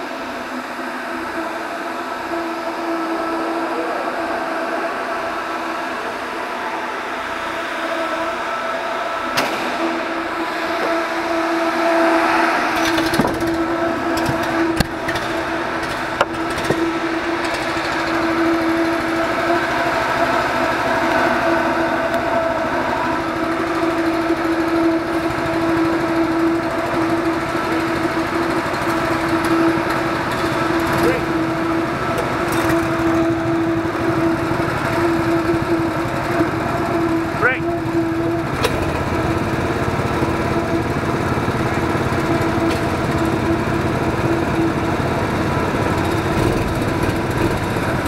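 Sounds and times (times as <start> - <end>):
deeper engine rumble: 0.0 - 48.0
go-kart engines droning: 0.0 - 48.0.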